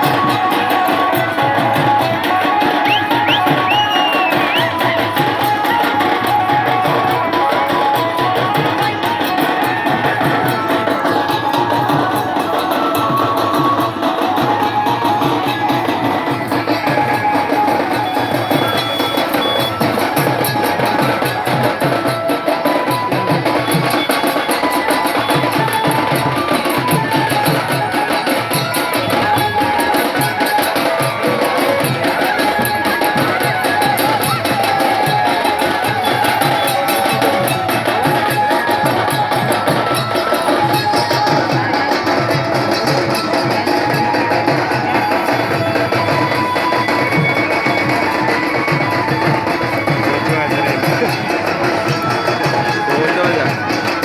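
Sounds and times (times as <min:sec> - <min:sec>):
rhythmic drum beat: 0:00.0 - 0:54.0.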